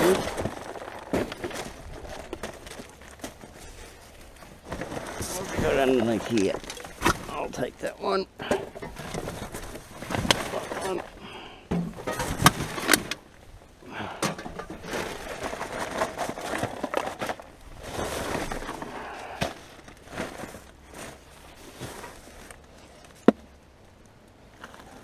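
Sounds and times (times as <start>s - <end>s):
rustling and crinkling rubbish: 0.0s - 25.0s.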